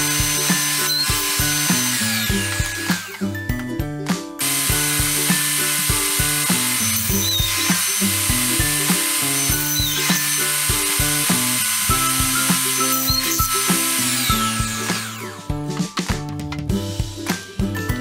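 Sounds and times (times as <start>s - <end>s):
table saw cutting board: 0.0s - 3.6s, 4.4s - 15.6s
upbeat background music: 0.0s - 18.0s.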